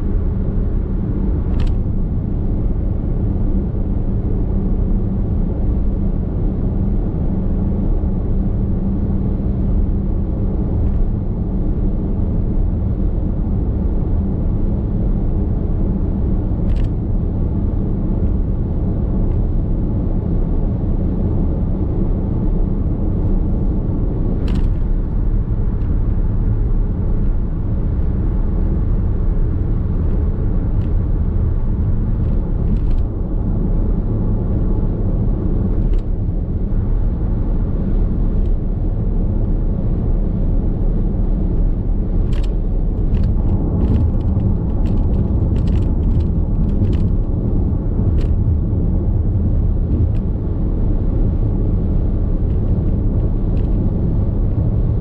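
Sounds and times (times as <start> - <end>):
car cabin road noise: 7.8 - 55.0.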